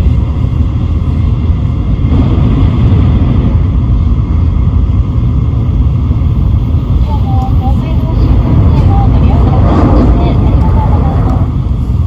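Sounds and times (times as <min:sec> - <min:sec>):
low train running rumble: 0:00.0 - 0:12.0.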